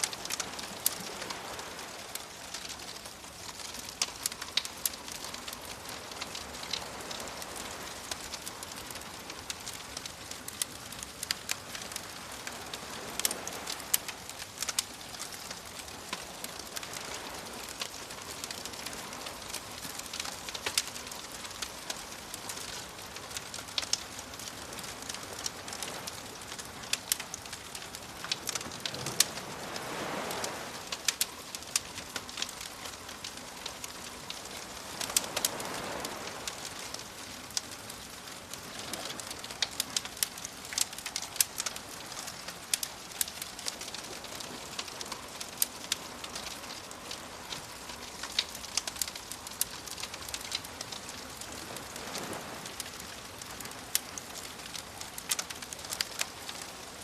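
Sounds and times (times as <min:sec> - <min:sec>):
campfire crackling: 0:00.0 - 0:57.0
gentle waves: 0:00.0 - 0:57.0
burning wood popping: 0:02.0 - 0:57.0.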